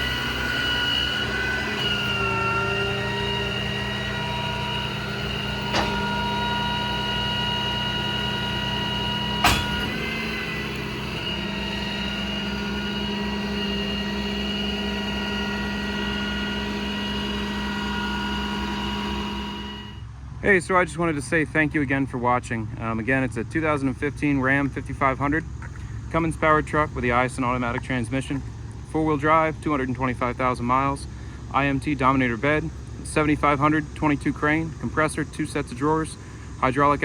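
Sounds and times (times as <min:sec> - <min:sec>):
diesel engine running with whine: 0:00.0 - 0:37.0.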